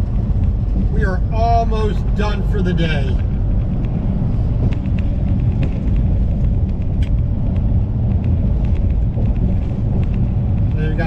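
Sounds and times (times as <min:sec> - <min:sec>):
truck diesel engine rumble: 0:00.0 - 0:11.0.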